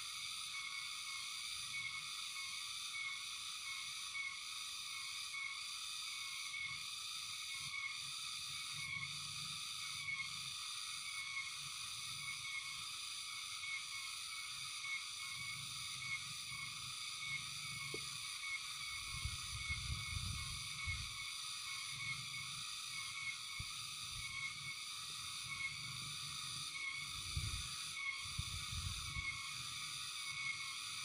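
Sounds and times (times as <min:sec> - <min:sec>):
frogs and insects chorus: 0:00.0 - 0:31.0.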